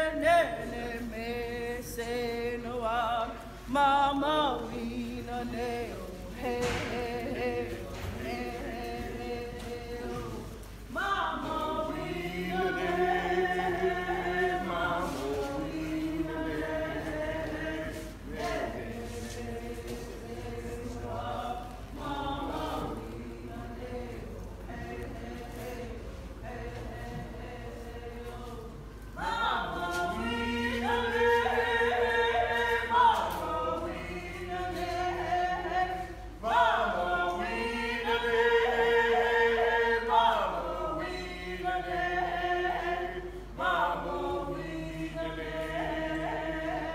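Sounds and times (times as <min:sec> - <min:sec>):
group singing without instruments: 0:00.0 - 0:46.9.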